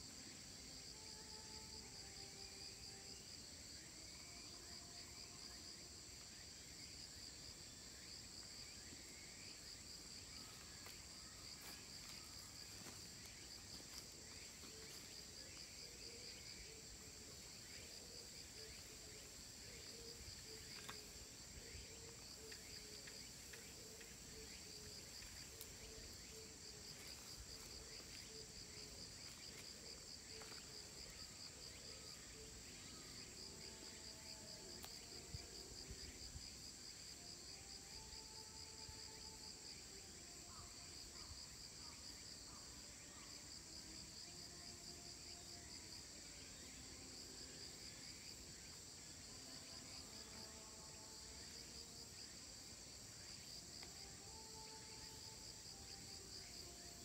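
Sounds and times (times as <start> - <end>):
insect buzz: 0.0 - 57.0
pulsing insect trill: 0.0 - 57.0.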